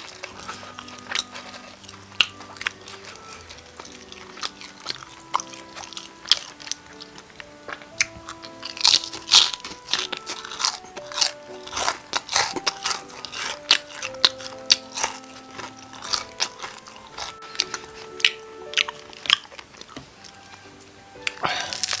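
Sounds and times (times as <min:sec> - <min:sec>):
crunchy chewing of fried chicken: 0:00.0 - 0:22.0
soft background music: 0:00.0 - 0:22.0.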